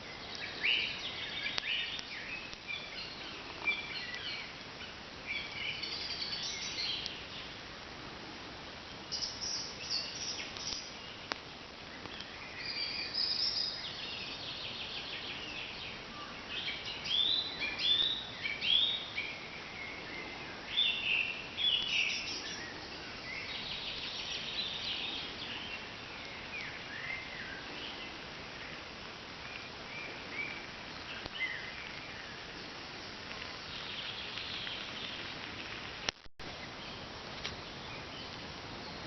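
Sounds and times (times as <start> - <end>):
songbirds chirping and trilling: 0.0 - 7.9, 8.5 - 39.0.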